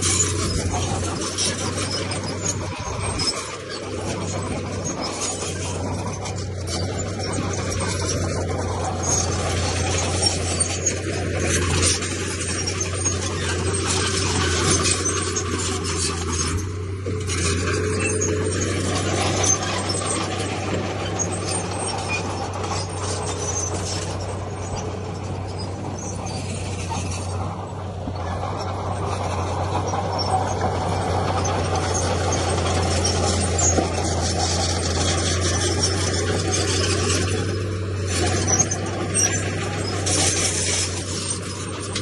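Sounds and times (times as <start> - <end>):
bulldozer diesel engine: 0.0 - 42.0
high squeals: 0.0 - 42.0
metal tracks clanking and scraping: 0.0 - 42.0.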